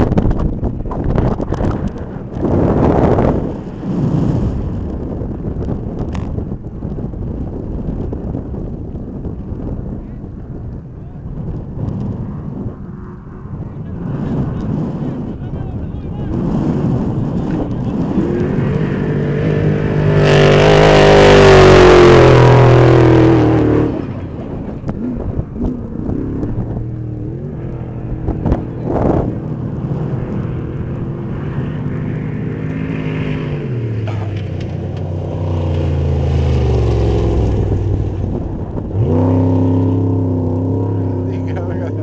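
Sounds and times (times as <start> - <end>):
racing truck engines at full throttle: 0.0 - 42.0
rush of noise: 0.0 - 42.0.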